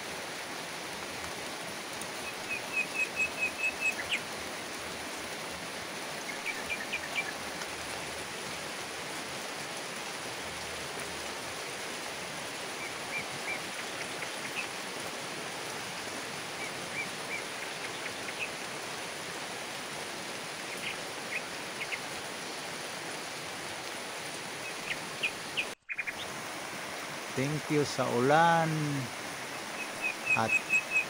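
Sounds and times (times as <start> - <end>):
rain on foliage: 0.0 - 31.0.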